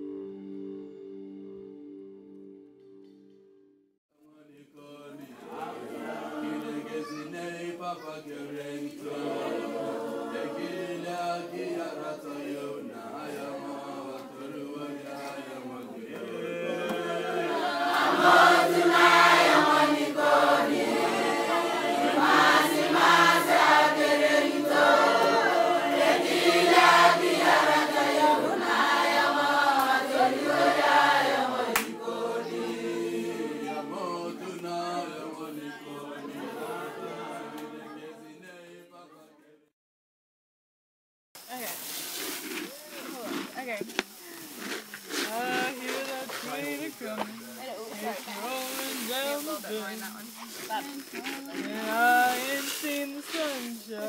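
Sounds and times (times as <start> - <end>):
group singing unaccompanied: 4.3 - 39.7, 45.0 - 54.0.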